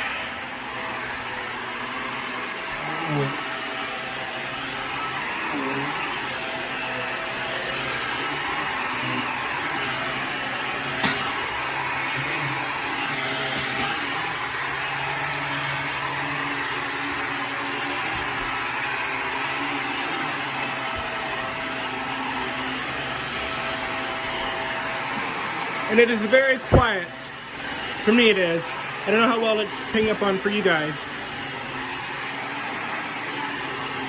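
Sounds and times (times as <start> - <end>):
vacuum cleaner running on carpet: 0.0 - 34.0.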